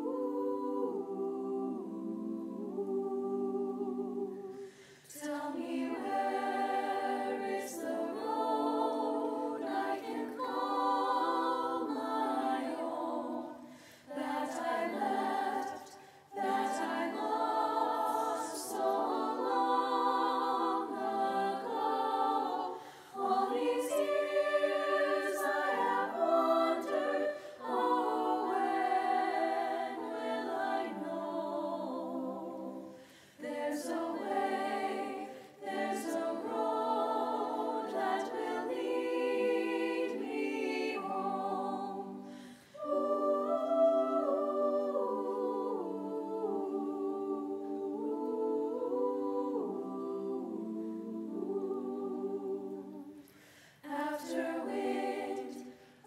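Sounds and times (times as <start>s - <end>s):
unaccompanied choir singing: 0.0s - 56.0s.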